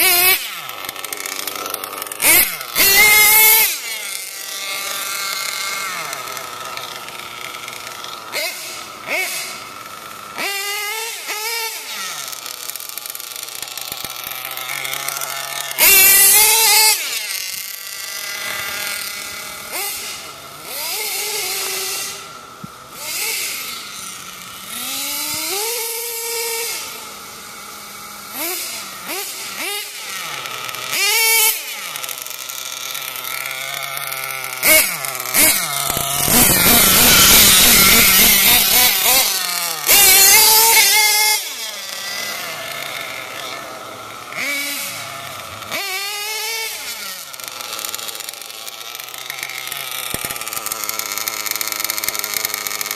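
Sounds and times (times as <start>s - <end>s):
rc car engine revving: 0.0s - 52.9s.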